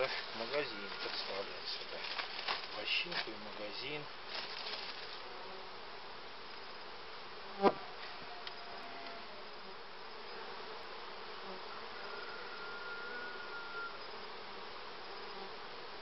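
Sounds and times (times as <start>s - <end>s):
bees humming: 0.0s - 2.2s, 3.7s - 16.0s.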